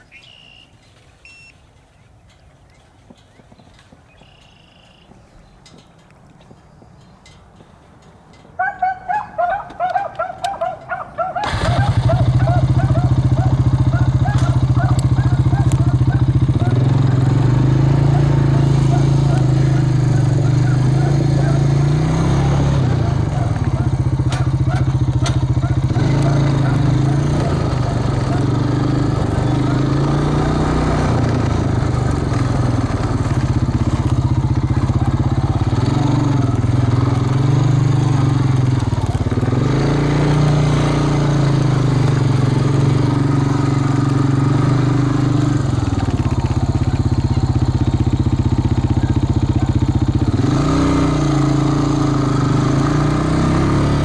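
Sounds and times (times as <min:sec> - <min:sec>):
vehicle engine driving: 0:09.4 - 0:54.0.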